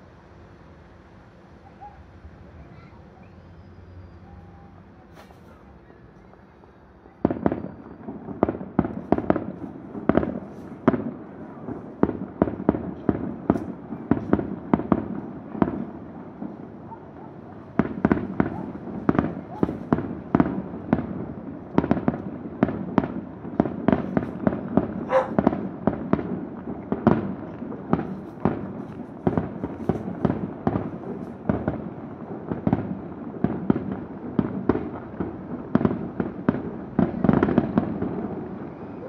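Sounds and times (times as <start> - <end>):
fireworks booms and bangs: 4.7 - 39.0.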